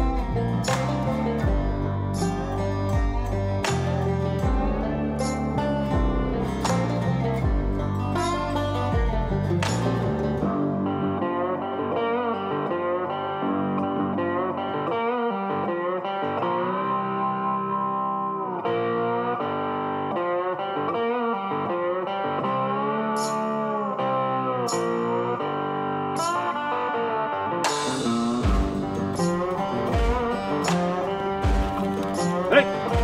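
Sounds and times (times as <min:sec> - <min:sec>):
guitar music with bending notes: 0:00.0 - 0:33.0.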